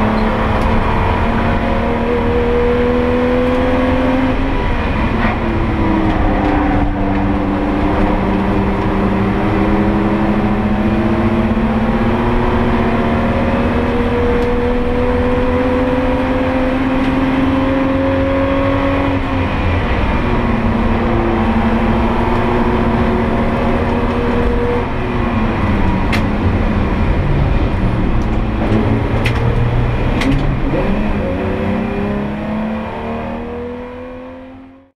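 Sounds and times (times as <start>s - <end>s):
race car engine under load: 0.0s - 34.6s
road and wind rumble: 0.0s - 34.9s.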